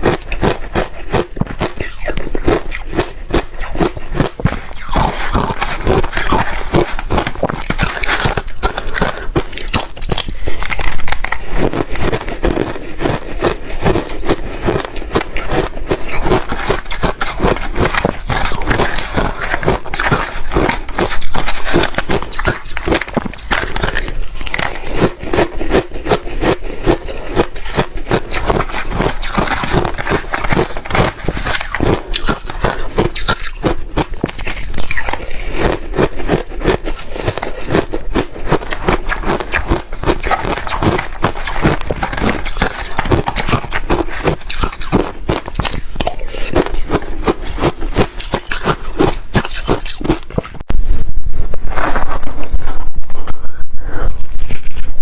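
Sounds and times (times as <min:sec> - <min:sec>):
ice crunching in mouth: 0:00.0 - 0:55.0.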